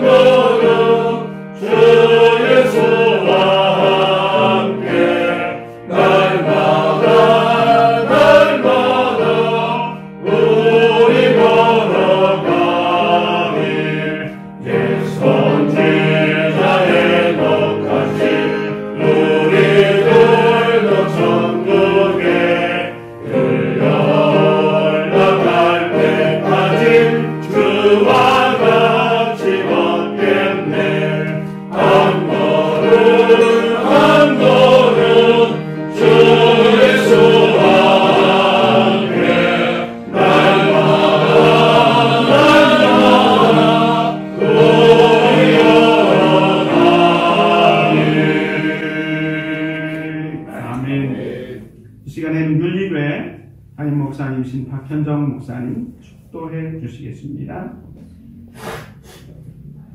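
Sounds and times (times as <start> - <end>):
congregation singing a hymn: 0.0 - 52.2.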